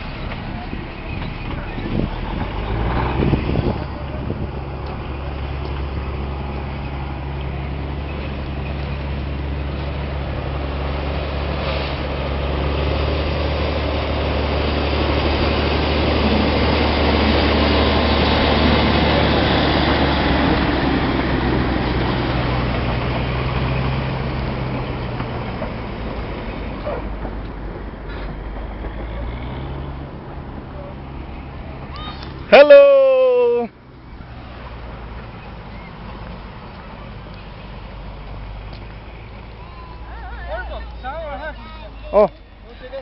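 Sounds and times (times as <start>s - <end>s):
train engine humming: 0.0s - 43.0s.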